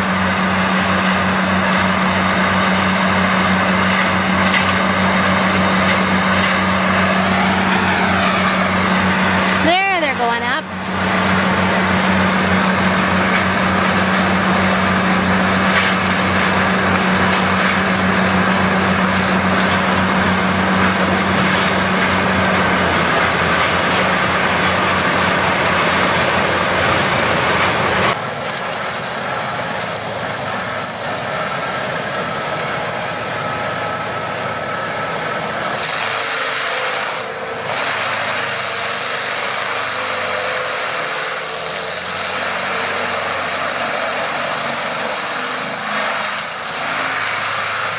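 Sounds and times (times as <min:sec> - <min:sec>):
mulcher grinding tree stump: 0:00.0 - 0:47.9
tree harvester engine humming: 0:00.0 - 0:47.9.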